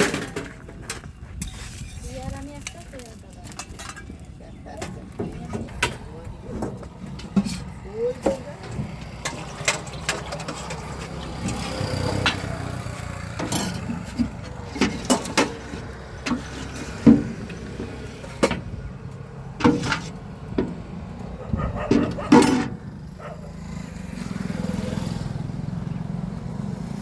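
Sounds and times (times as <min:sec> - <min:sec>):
metal utensils clicking and knocking: 0:00.0 - 0:20.8, 0:21.6 - 0:22.8
low hum of traffic: 0:00.0 - 0:27.0.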